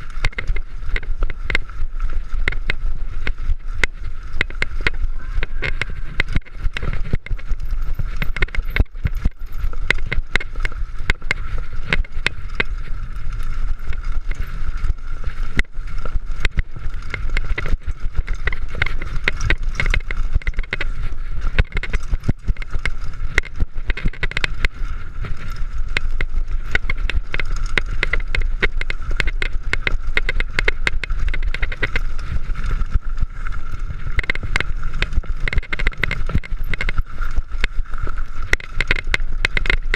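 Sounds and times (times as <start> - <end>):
bike rattling over rough ground: 0.0 - 39.9
steady whir: 0.0 - 39.9
wind rumble on microphone: 0.0 - 39.9.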